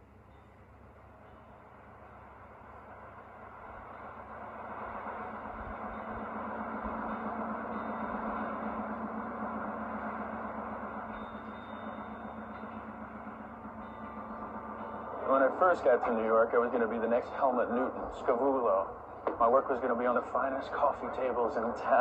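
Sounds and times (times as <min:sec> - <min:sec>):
ferry engine drone: 0:00.0 - 0:22.0.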